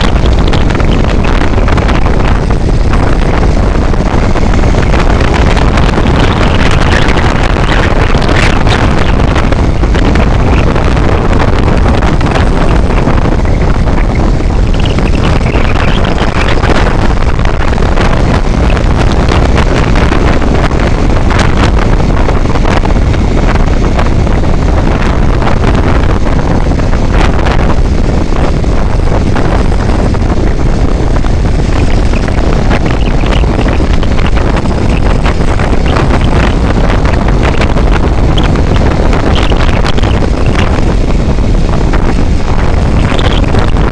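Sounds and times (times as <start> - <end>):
vehicle noise: 0.0 - 43.9
wind rushing over microphone: 0.0 - 43.9.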